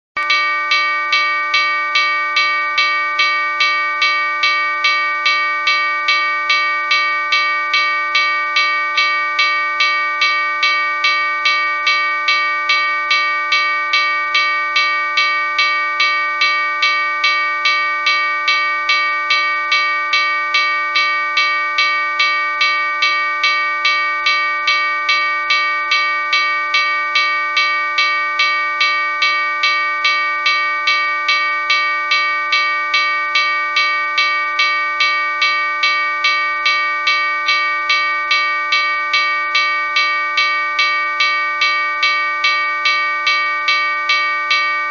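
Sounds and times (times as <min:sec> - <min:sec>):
railroad crossing bell ringing: 0:00.2 - 0:44.9.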